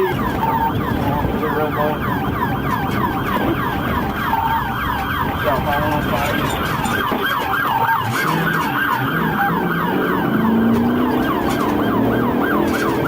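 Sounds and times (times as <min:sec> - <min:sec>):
police siren yelping: 0:00.0 - 0:13.0
road noise: 0:00.0 - 0:13.0
car engine running: 0:00.6 - 0:13.0.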